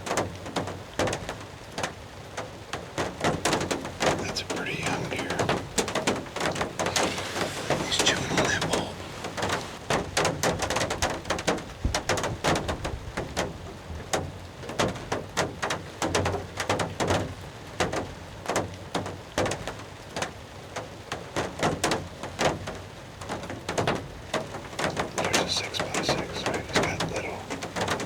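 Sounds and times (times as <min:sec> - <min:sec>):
rain tapping on a roof: 0:00.0 - 0:28.0.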